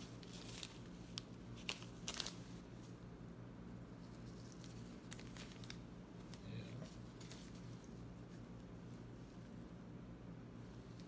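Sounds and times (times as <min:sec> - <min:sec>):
faint rustling and crinkles: 0:00.0 - 0:03.0, 0:03.7 - 0:09.8
low steady hum: 0:00.0 - 0:11.0.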